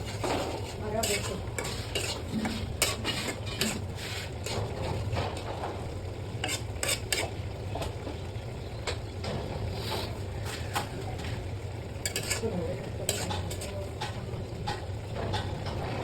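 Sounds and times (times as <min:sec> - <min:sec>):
utensil scraping cooking pan: 0:00.0 - 0:08.3, 0:09.4 - 0:16.0
light sizzling: 0:00.0 - 0:16.0.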